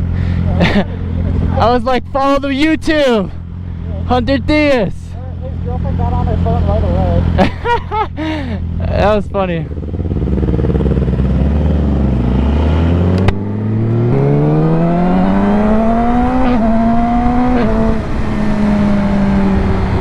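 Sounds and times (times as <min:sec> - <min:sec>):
sport bike engine accelerating: 0:00.0 - 0:20.0.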